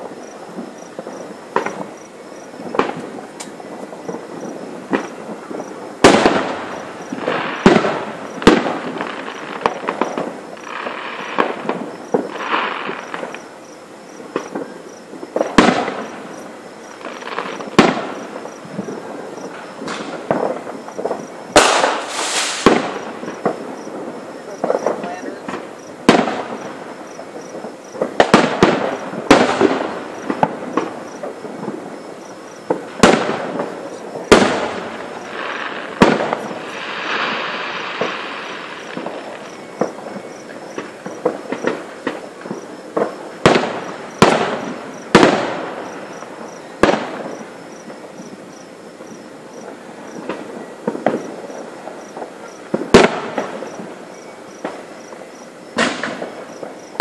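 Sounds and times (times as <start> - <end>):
hissing crackle: 0.0 - 57.0
firework shells bursting: 0.6 - 13.5, 14.2 - 48.0, 55.7 - 57.0.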